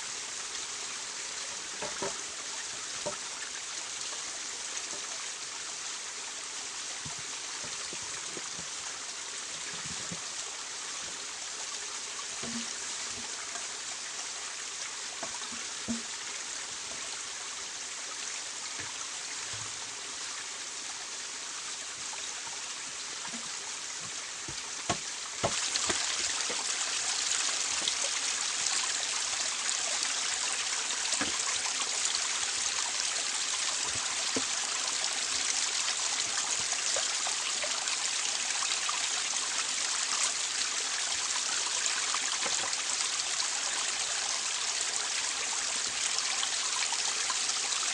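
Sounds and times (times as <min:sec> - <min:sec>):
forest stream trickling: 0:00.0 - 0:47.9.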